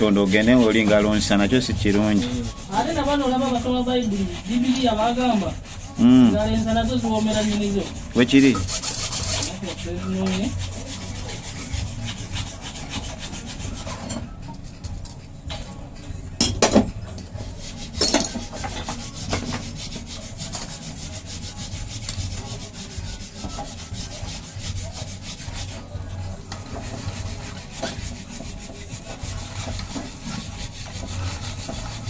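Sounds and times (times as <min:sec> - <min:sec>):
hand tool scraping: 0:00.0 - 0:14.3, 0:17.4 - 0:32.0.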